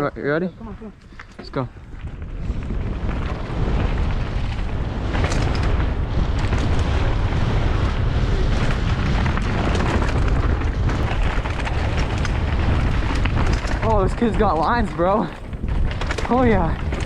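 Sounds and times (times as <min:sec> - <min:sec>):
bike clattering over rough trail: 0:00.0 - 0:17.0
wind buffeting microphone: 0:00.0 - 0:17.0.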